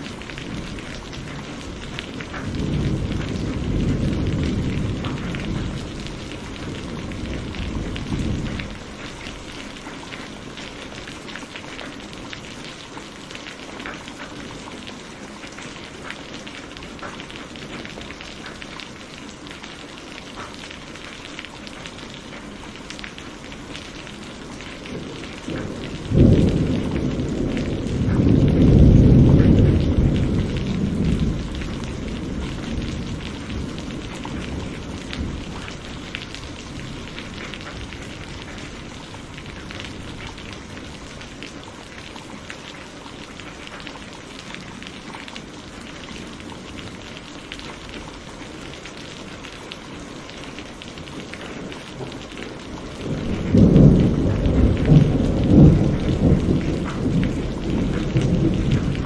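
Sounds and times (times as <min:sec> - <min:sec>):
thunder rumbling: 0:00.0 - 0:19.6, 0:22.4 - 0:49.5, 0:50.4 - 0:59.0
steady rain falling: 0:00.0 - 0:59.0.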